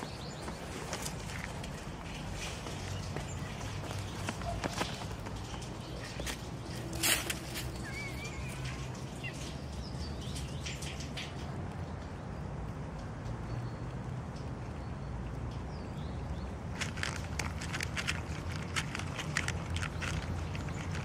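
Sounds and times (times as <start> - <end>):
birds chirping: 0.0 - 21.0
soft clicks and rustles: 0.0 - 21.0.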